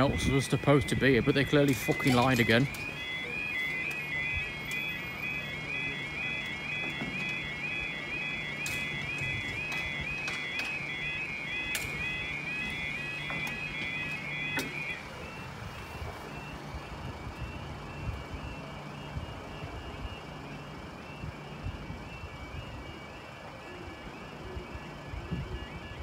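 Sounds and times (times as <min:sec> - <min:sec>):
warbling two-tone crossing alarm: 0:00.0 - 0:26.0.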